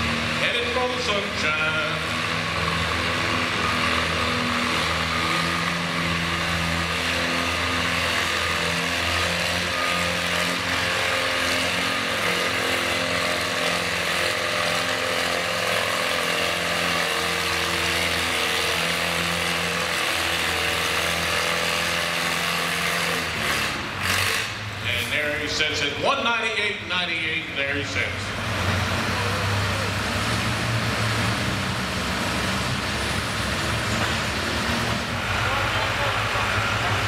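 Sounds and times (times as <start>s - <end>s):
tractor engine under load: 0.0s - 37.0s.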